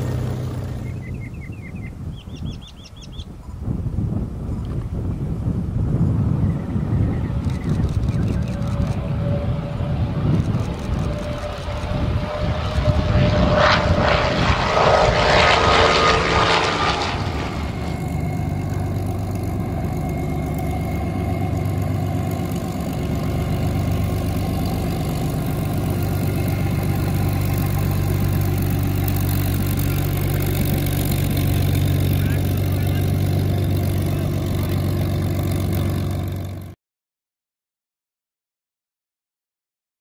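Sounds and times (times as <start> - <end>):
plane engine low drone: 0.0 - 36.8
propeller plane engine passing: 0.0 - 36.8.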